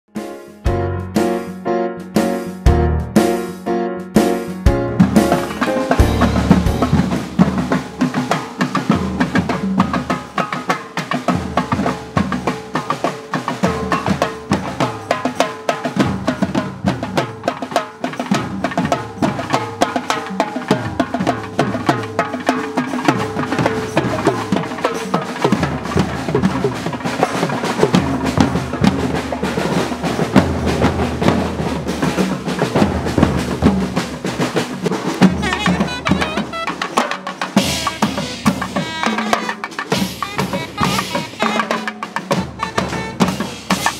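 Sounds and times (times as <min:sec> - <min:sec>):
drum band playing fast rhythms: 0:00.2 - 0:43.9.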